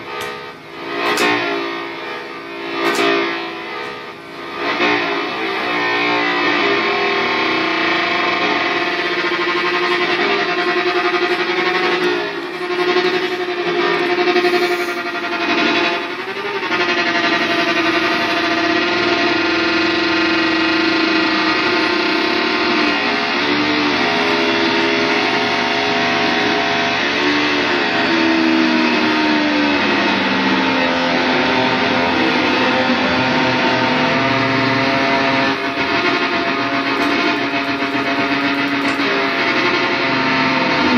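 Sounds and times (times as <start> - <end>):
electric guitar sustained tones: 0.0 - 40.9.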